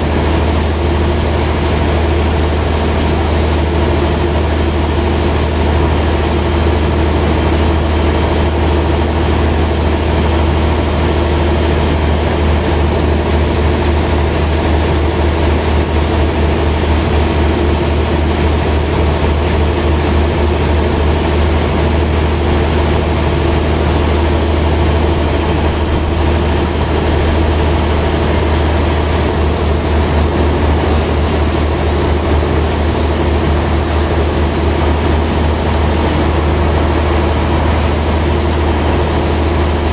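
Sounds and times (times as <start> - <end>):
band saw machinery humming: 0.0 - 39.9.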